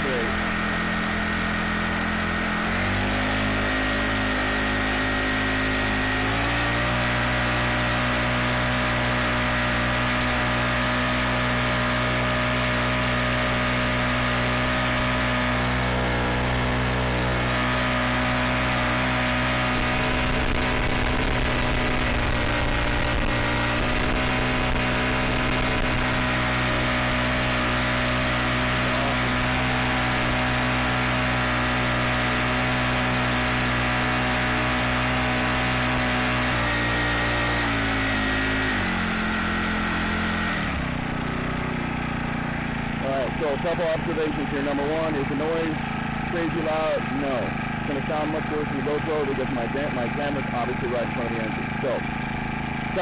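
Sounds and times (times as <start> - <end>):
small engine revving: 0.0 - 53.0.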